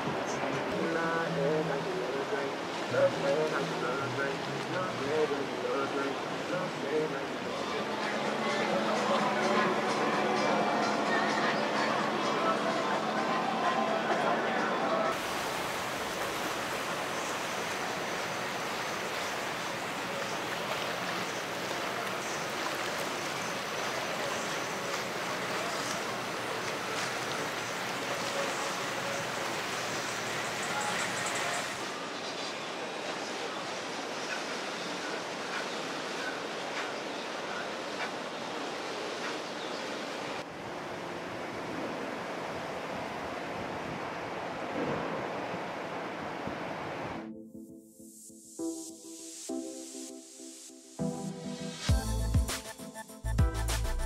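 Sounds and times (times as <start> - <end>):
rushing water and wind: 0.0 - 47.6.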